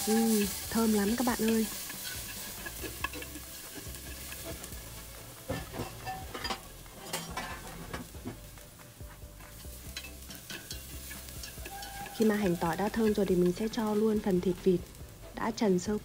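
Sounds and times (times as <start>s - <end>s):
shallots and garlic sizzling in oil: 0.0s - 16.0s.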